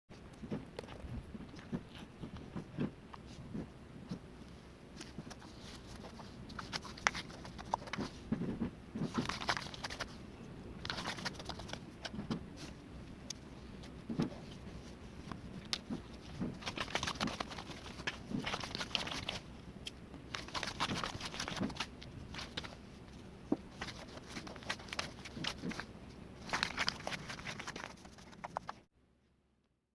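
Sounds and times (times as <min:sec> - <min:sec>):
rustling and crinkling: 0:00.1 - 0:19.6, 0:20.2 - 0:28.9.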